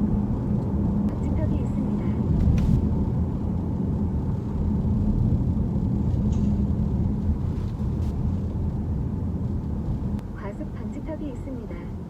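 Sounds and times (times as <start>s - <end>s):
road and drivetrain rumble: 0.0s - 12.0s.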